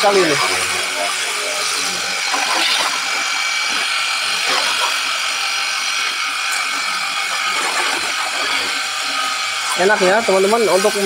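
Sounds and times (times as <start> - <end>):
high-pressure water jet hissing: 0.0 - 11.0
pressure washer pump motor: 0.0 - 11.0.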